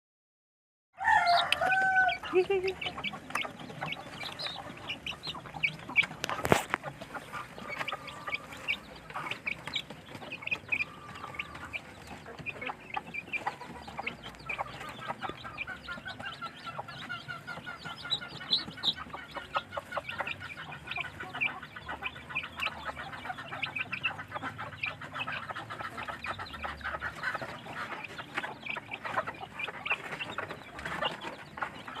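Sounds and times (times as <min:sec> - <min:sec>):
chicks clucking and chirping: 0:01.0 - 0:32.0.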